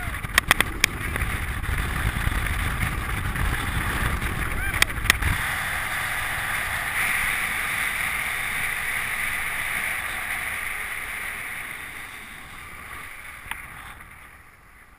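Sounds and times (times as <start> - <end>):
wind rushing: 0.0 - 14.1
skis scraping over snow: 0.0 - 14.9.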